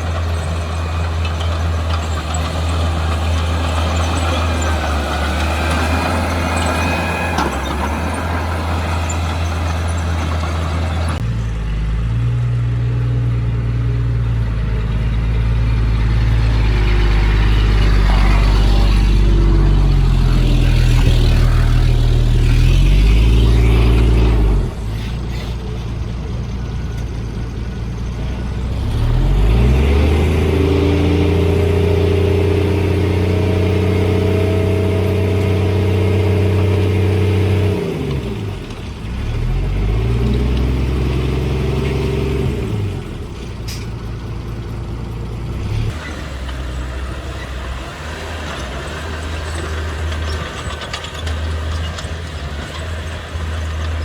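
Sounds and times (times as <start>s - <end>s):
heavy machinery diesel engine revving: 0.0s - 54.0s.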